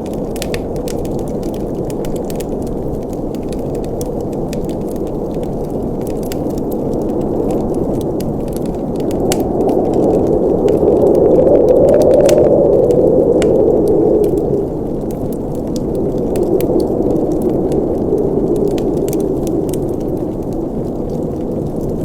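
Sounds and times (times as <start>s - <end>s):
fire crackling and popping: 0.0s - 22.0s
rush of fire flames: 0.0s - 22.0s.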